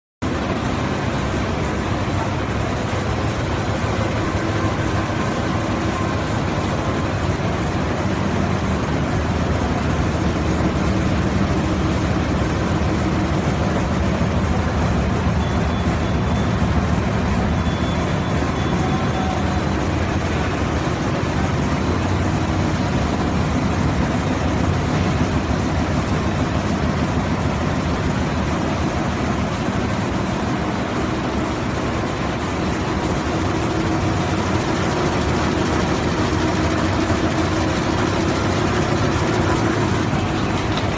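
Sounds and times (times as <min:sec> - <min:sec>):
printing press running: 0:00.2 - 0:40.9.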